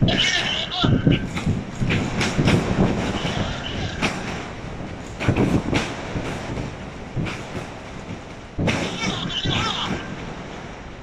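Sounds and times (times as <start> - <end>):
distant explosions rumbling: 0.0 - 11.0.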